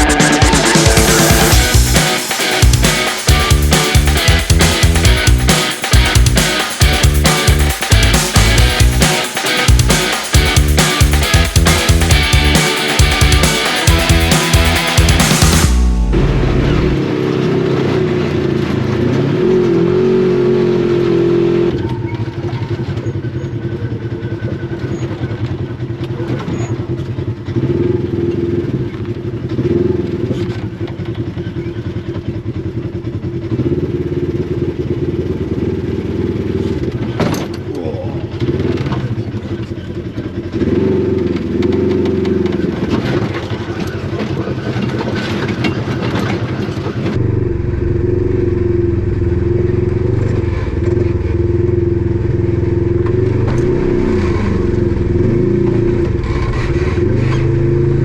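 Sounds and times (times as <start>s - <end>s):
off-road vehicle engine running: 0.0s - 58.0s.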